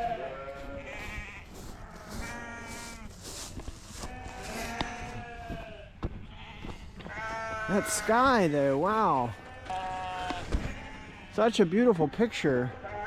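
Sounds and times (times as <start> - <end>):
sheep bleating: 0.0 - 3.3, 3.9 - 13.0.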